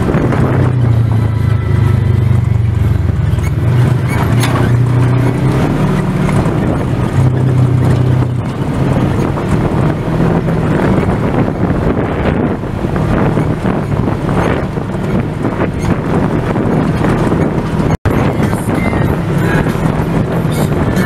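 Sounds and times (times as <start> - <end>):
off-road vehicle engine running: 0.0 - 21.0.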